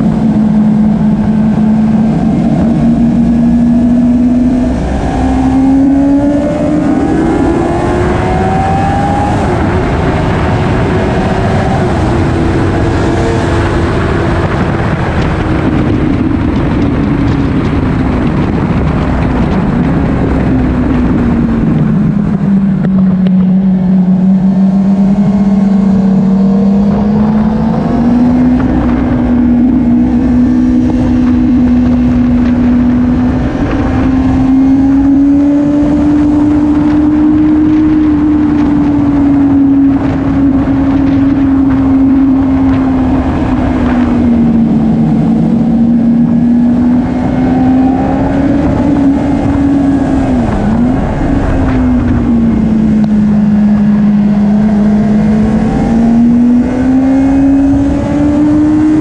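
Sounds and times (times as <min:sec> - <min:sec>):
motorcycle engine at high revs: 0:00.0 - 0:59.0
wind rushing over camera: 0:00.0 - 0:59.0.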